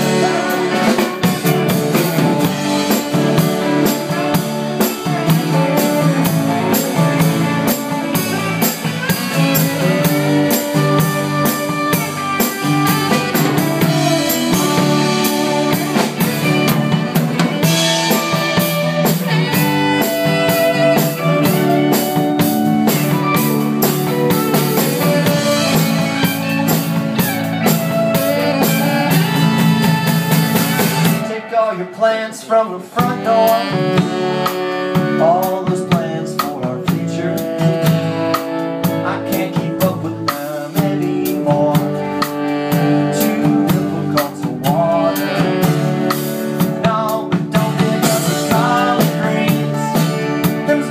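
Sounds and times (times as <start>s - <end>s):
tenor saxophone: 0.0s - 31.5s, 33.0s - 50.9s
drum kit: 0.0s - 31.7s, 33.0s - 50.9s
acoustic guitar: 0.0s - 50.9s
electric bass: 0.0s - 50.9s.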